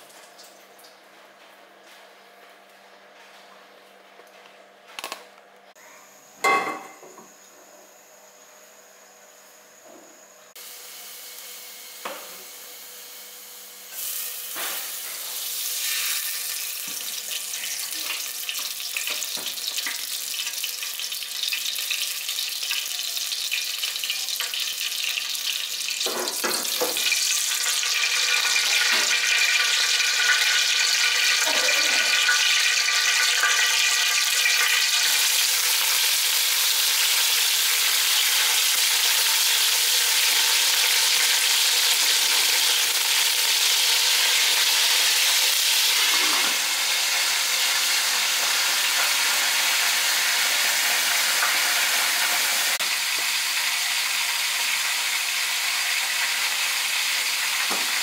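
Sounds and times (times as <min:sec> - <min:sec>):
oil sizzling and crackling: 0:10.6 - 0:58.0.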